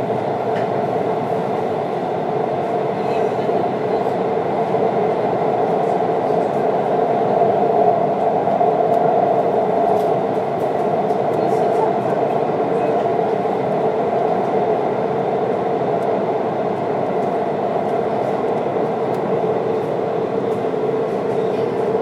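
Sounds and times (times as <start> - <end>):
steady train hum: 0.0 - 22.0
subway train wheels rumbling: 0.0 - 22.0.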